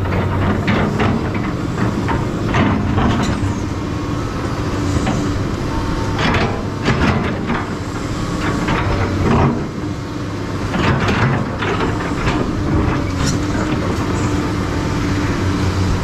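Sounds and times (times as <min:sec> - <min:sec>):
excavator clanks and scrapes: 0:00.0 - 0:16.0
excavator diesel engine running: 0:00.0 - 0:16.0.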